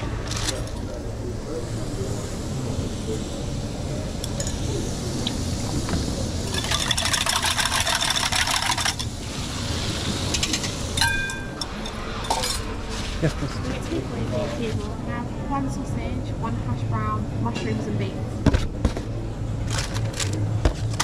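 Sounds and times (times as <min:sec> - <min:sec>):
low rumble of fans: 0:00.0 - 0:21.0.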